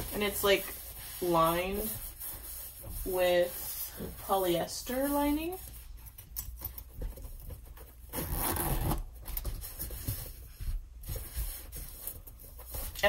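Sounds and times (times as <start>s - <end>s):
fabric rubbing and rustling: 0.0s - 13.0s.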